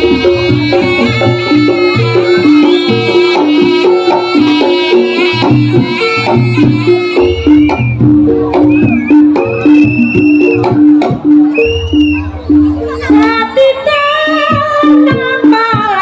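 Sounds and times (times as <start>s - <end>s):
high reedy wind melody: 0.0s - 14.9s
hand drums beating: 0.0s - 16.0s.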